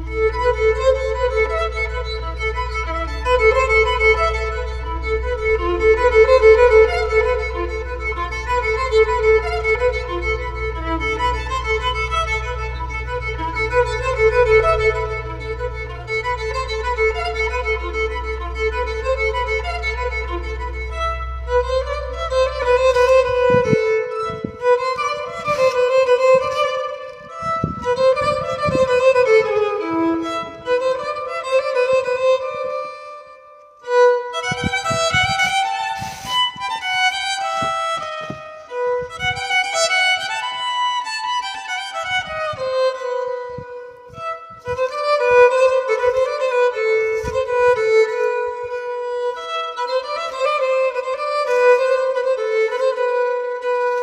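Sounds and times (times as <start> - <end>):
violin melody: 0.0 - 54.0.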